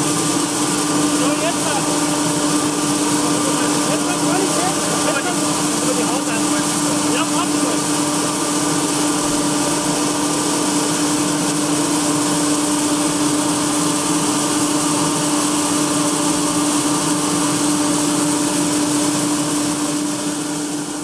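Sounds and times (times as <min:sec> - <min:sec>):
grain machine humming: 0:00.0 - 0:21.0
grain pouring: 0:00.0 - 0:21.0.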